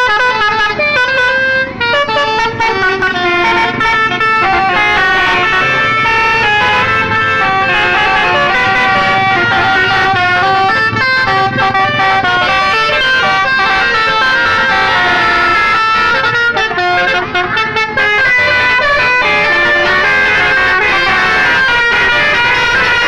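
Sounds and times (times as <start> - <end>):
bus horns playing a tune: 0.0 - 23.0.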